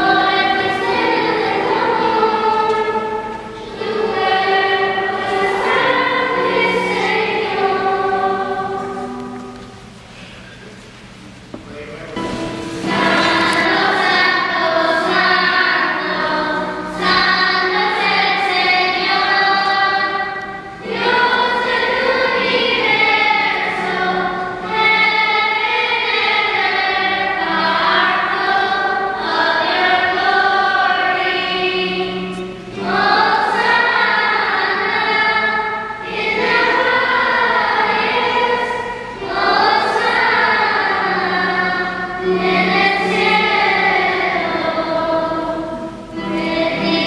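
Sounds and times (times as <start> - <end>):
choir singing a hymn: 0.0 - 10.0, 12.2 - 47.0.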